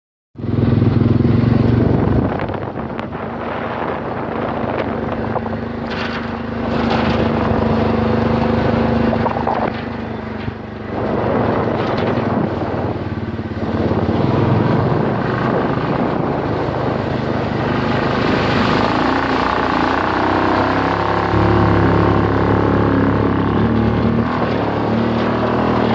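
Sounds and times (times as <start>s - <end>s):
engine running steadily: 0.4s - 25.9s
dense rushing noise: 0.7s - 25.9s.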